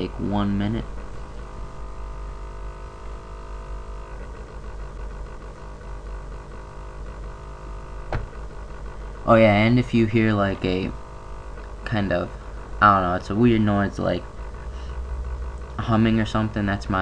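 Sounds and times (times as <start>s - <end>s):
laptop fan humming: 0.0s - 17.0s
whining tones: 0.0s - 17.0s.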